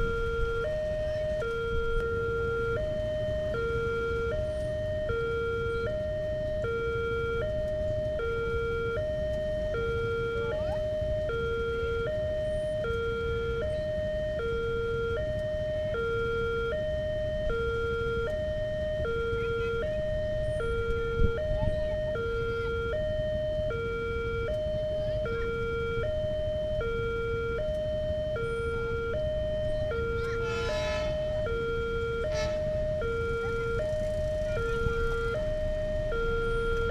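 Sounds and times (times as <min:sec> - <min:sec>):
level crossing two-tone siren: 0:00.0 - 0:36.9.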